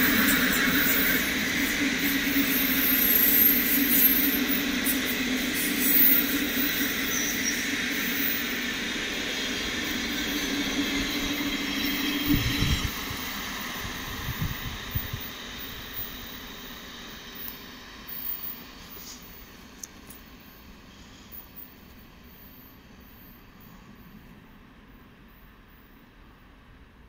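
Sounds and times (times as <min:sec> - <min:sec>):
train wheels rumbling on track: 0:00.0 - 0:27.0.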